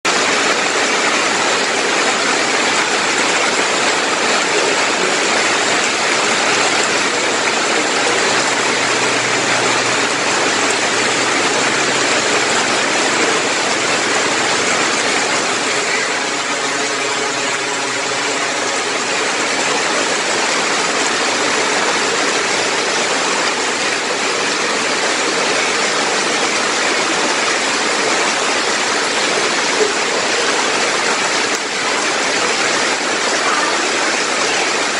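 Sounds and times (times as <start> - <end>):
heavy rain on leaves: 0.0 - 34.9
rain splashing into pond: 0.1 - 34.9.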